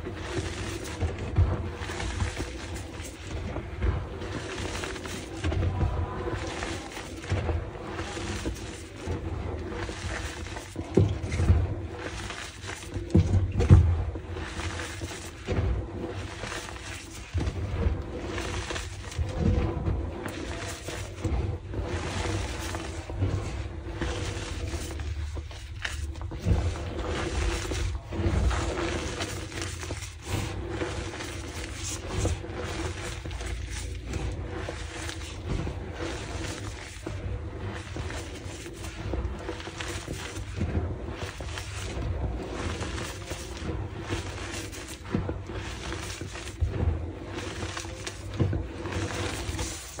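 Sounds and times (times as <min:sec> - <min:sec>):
chalk crunching and crumbling: 0:00.0 - 0:50.0.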